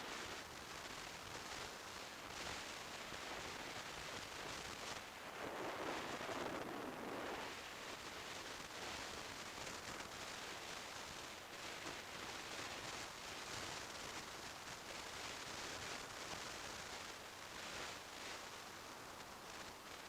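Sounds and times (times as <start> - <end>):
wind and road noise hiss: 0.0 - 20.0.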